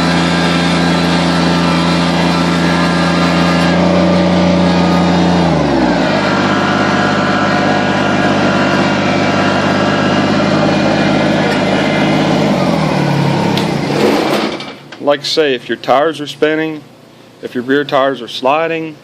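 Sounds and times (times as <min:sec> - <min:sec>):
tractor diesel engine running: 0:00.0 - 0:18.4.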